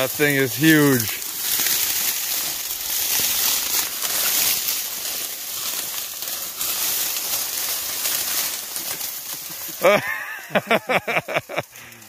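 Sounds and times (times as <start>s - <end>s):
dry stalks rustling and crackling: 0.0s - 12.0s.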